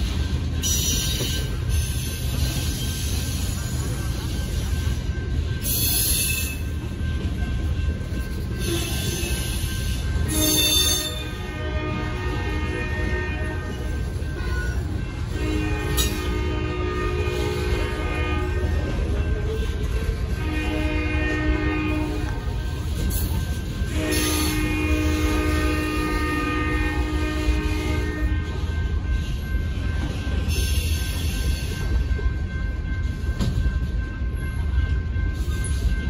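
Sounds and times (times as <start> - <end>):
steel wheels rumbling on rails: 0.0 - 36.0.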